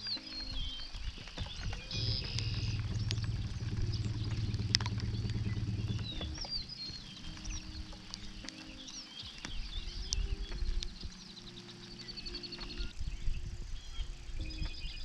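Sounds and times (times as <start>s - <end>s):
light ticks: 0.0s - 13.0s
birds chirping: 0.0s - 15.0s
steady low hum: 0.0s - 15.0s.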